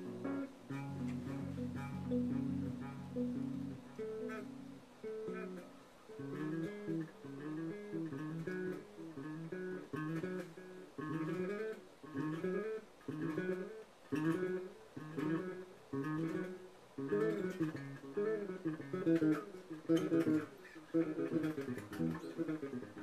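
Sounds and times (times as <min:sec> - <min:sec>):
electric bass riff with delay: 0:00.0 - 0:23.0.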